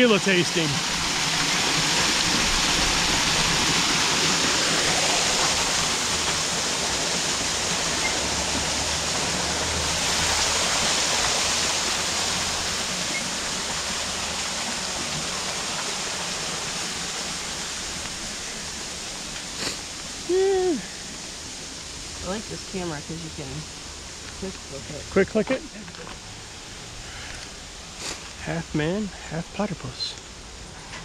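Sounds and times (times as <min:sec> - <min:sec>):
small waterfall pouring: 0:00.0 - 0:31.0.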